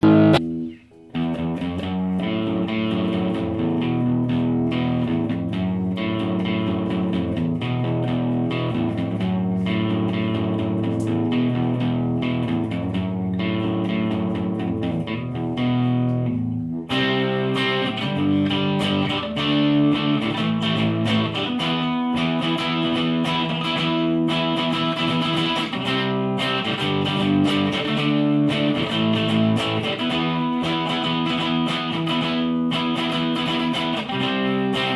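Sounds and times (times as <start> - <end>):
electric guitar playing: 0.0 - 34.9.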